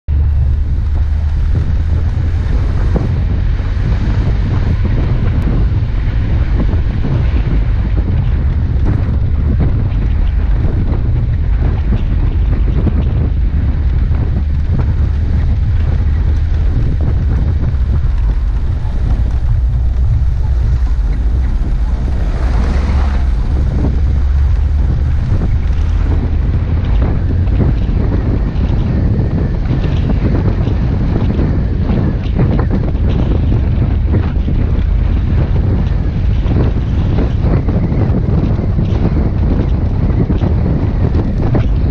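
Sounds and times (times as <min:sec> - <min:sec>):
vehicle driving rumble: 0:00.0 - 0:41.9
wind buffeting microphone: 0:00.0 - 0:41.9.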